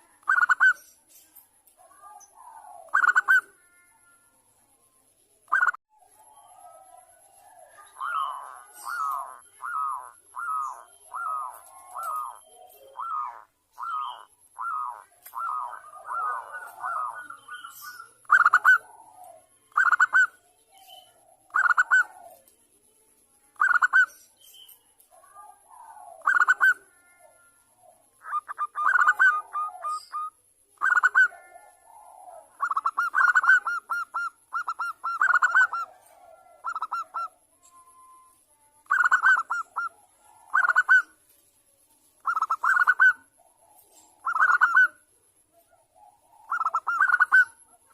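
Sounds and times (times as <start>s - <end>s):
doves cooing: 1.8s - 4.0s, 5.5s - 22.5s, 25.1s - 38.2s, 38.8s - 41.2s, 42.2s - 47.9s.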